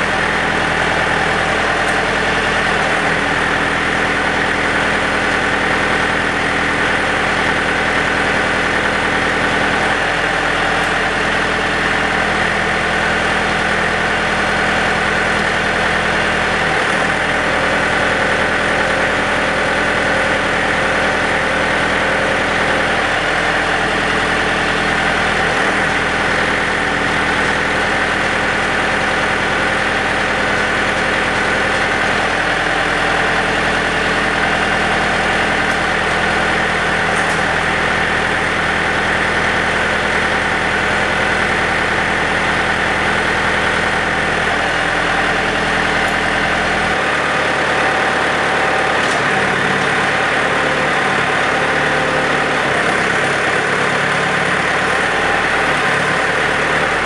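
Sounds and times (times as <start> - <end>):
rotary tiller turning: 0.0 - 57.0
tractor diesel engine running: 0.0 - 57.0.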